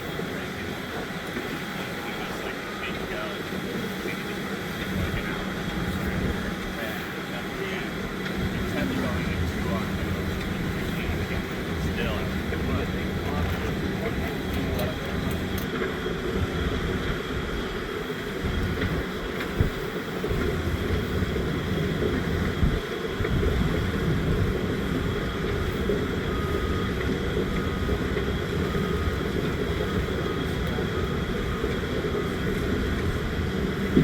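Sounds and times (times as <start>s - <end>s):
wind buffeting microphone: 4.4s - 34.0s.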